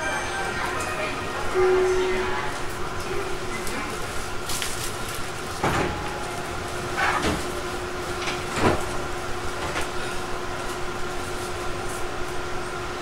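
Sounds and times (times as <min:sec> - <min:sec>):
steady hum of air conditioning: 0:00.0 - 0:13.0.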